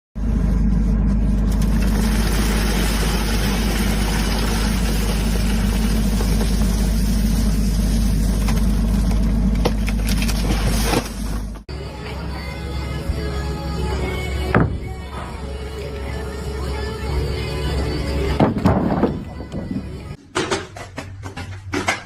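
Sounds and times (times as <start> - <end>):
engine running steadily: 0.2 - 20.2.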